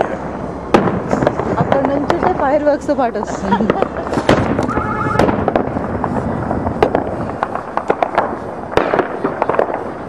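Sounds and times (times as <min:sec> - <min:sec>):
fireworks bangs: 0:00.0 - 0:10.0
fireworks popping and cracking: 0:00.0 - 0:10.0.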